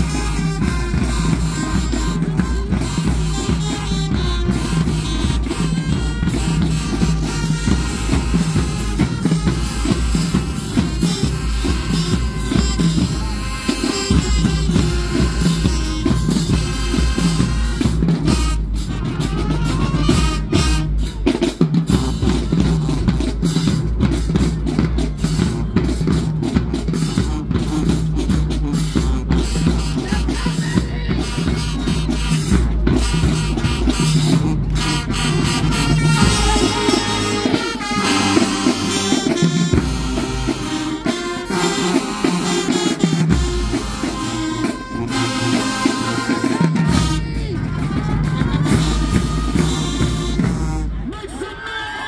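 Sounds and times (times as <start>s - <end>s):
bass drum: 0.0s - 51.0s
snare drum: 0.0s - 51.0s
marching band music: 0.0s - 52.0s.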